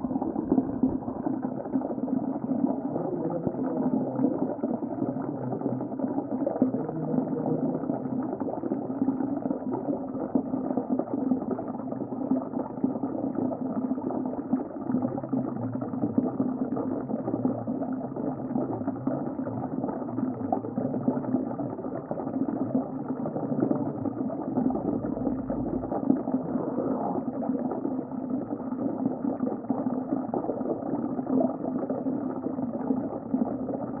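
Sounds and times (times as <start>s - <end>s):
dense underwater bubbling: 0.0s - 34.0s
muffled underwater rumble: 0.0s - 34.0s.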